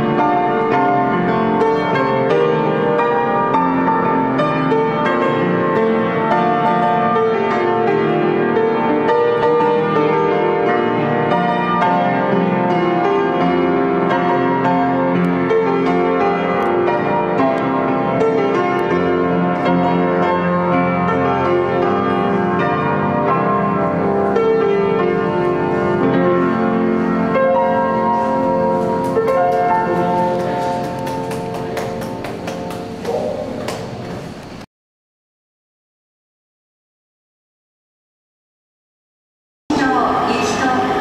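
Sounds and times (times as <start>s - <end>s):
piano playing: 0.0s - 34.6s.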